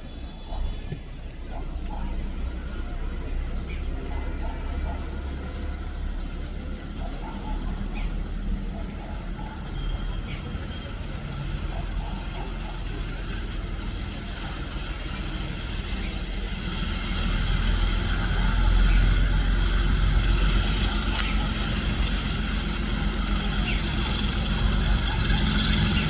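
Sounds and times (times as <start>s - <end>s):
heavy vehicles rumbling: 0.0s - 26.0s.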